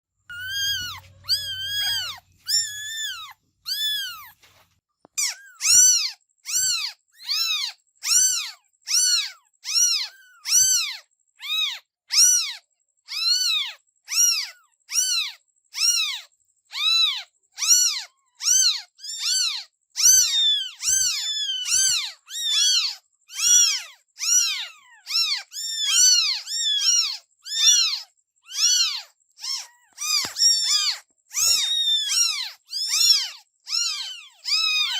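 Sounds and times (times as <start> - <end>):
kittens meowing: 0.3 - 4.5, 5.1 - 34.9.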